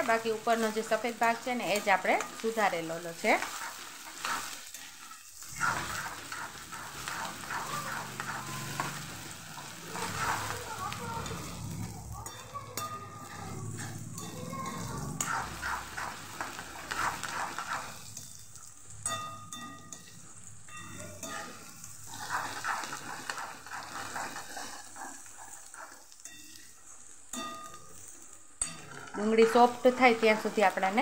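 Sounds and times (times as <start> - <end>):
metal spatula scraping pan: 0.0 - 31.0
vegetables sizzling in hot oil: 0.0 - 31.0.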